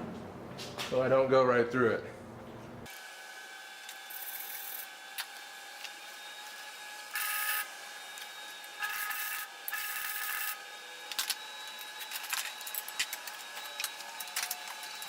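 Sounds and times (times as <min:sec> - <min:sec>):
arc welder buzzing crackle: 0:02.8 - 0:15.0.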